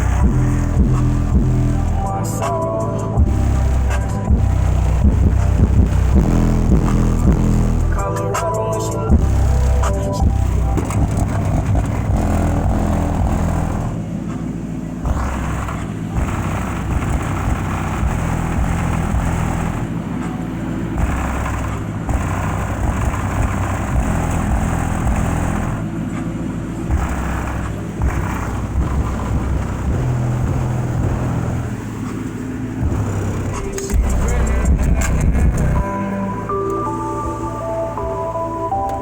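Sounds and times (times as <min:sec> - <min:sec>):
heavy bass through subwoofers: 0:00.0 - 0:39.0
muffled music: 0:00.0 - 0:39.0.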